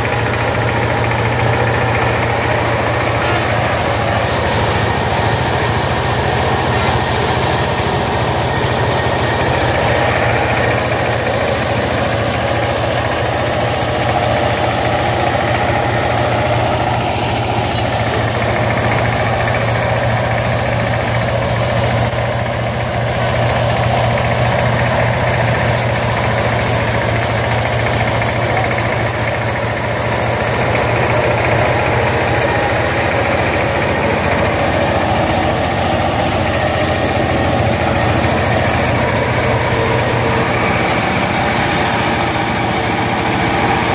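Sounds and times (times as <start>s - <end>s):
small engine humming: 0.0s - 43.9s
threshing drum whirring and rattling: 0.0s - 43.9s.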